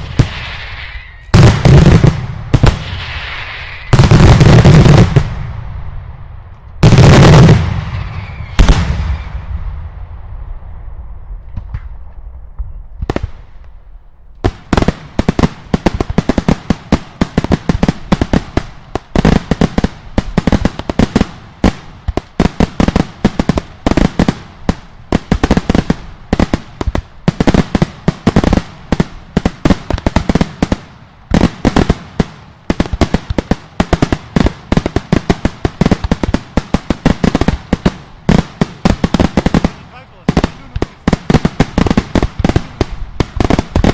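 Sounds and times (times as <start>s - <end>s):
heavy fireworks booms: 0.0s - 13.8s, 14.4s - 43.9s
fireworks explosions: 0.0s - 43.9s.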